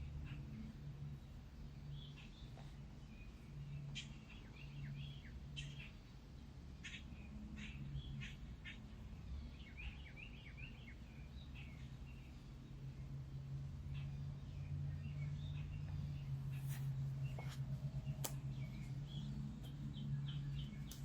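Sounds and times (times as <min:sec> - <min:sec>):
low steady hum: 0:00.0 - 0:21.0
small birds chirping: 0:00.0 - 0:21.0.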